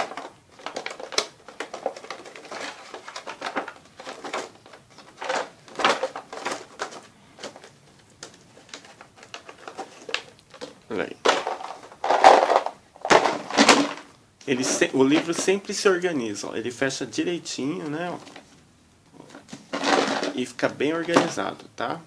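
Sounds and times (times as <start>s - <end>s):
plastic cover handled: 0.0s - 15.9s, 17.7s - 21.7s.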